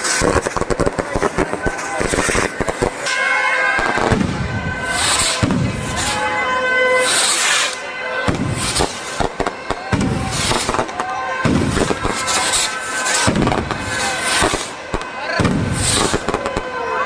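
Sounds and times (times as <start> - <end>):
fireworks hissing: 0.0 - 3.2, 3.9 - 16.8
fireworks cracking and banging: 0.0 - 17.0
voices: 0.0 - 17.0.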